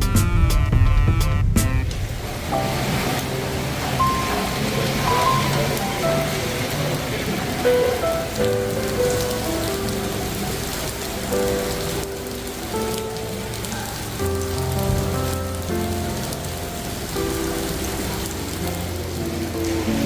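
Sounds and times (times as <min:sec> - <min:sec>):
steady rain falling: 0:00.0 - 0:20.0
music of held notes: 0:00.1 - 0:20.0.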